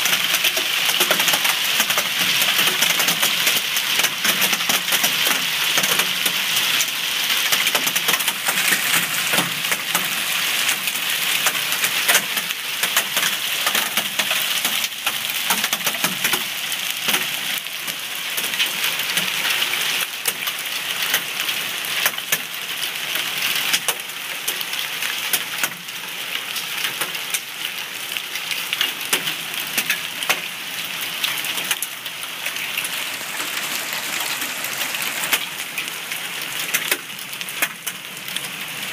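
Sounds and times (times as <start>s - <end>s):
hailstones ticking: 0.0s - 21.3s, 22.0s - 22.5s, 23.1s - 25.9s, 28.6s - 38.9s
rain hissing on pavement: 0.0s - 38.9s.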